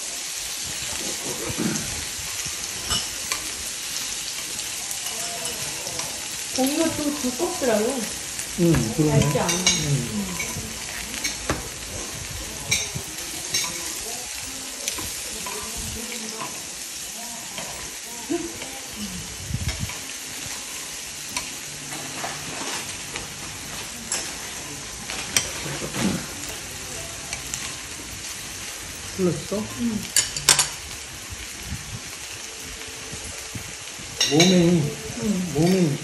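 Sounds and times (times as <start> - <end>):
meat sizzling in a frying pan: 0.0 - 36.0
tongs clicking on a pan: 0.8 - 19.0, 19.6 - 30.9.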